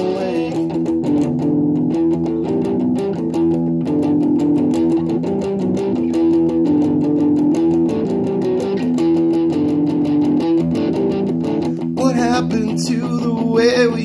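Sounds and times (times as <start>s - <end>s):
electric guitar strumming chords: 0.0s - 14.0s.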